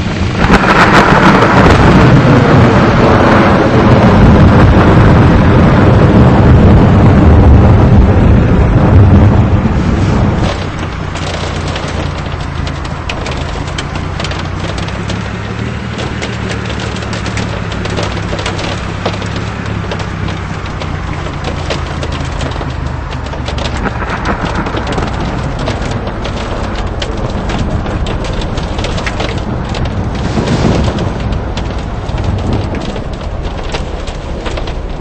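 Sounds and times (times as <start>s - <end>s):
engine humming: 0.0s - 35.0s
heavy rain hitting a vehicle: 0.0s - 35.0s
low rumble: 0.0s - 35.0s.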